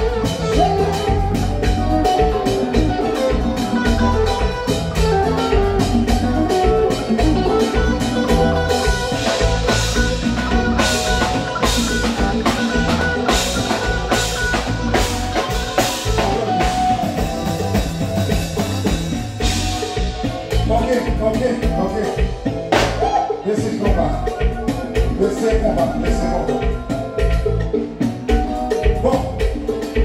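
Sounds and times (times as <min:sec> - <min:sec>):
live band playing: 0:00.0 - 0:30.0.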